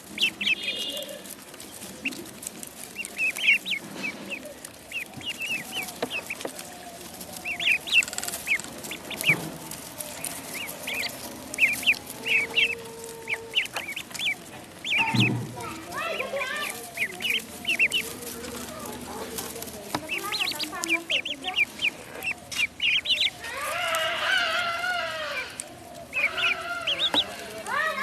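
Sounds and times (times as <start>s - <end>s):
ducklings peeping: 0.0s - 28.0s.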